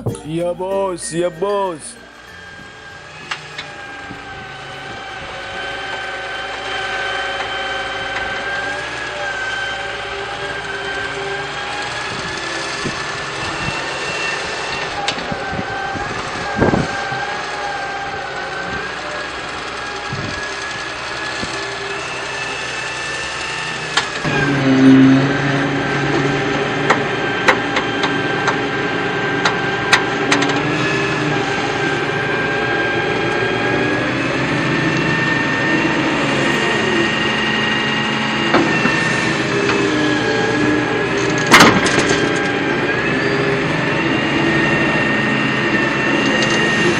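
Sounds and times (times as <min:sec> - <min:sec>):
lower motor tone: 0:00.0 - 0:46.9
toy excavator motors whining: 0:00.0 - 0:46.9.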